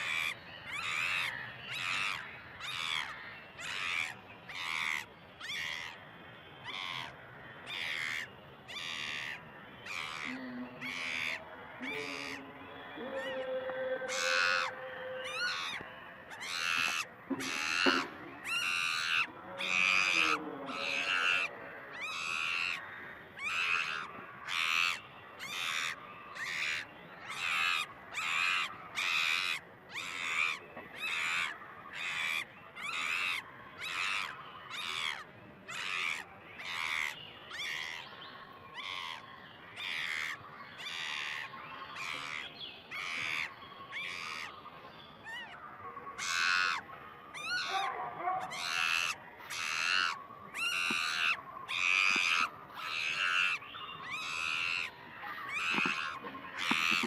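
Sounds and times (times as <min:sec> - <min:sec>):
animal calling: 0:00.0 - 0:06.0, 0:06.6 - 0:38.1, 0:38.7 - 0:44.6, 0:45.2 - 0:57.0.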